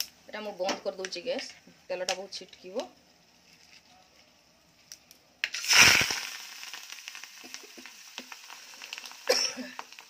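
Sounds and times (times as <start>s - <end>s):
leaves crackling in hot oil: 0.0s - 10.0s
oil sizzling with pops: 0.0s - 10.0s.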